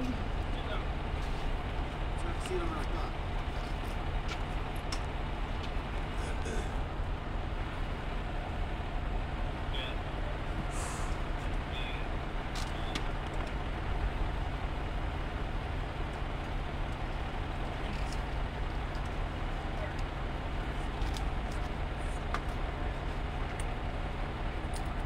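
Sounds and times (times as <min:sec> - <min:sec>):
large vehicle engine idling: 0:00.0 - 0:25.0.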